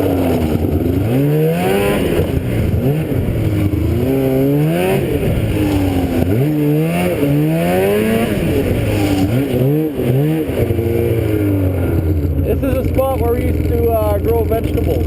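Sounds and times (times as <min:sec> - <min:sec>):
engine revving up and down: 0:00.0 - 0:15.0.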